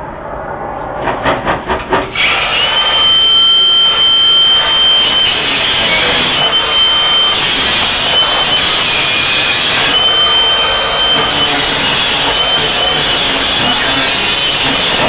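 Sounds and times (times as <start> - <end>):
angle grinder cutting metal: 2.2 - 15.0.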